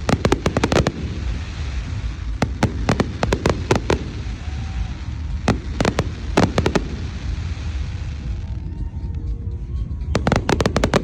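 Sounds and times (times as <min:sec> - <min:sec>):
fireworks cracking bangs: 0:00.0 - 0:08.7, 0:10.2 - 0:11.0
steady low rumble: 0:00.0 - 0:11.0.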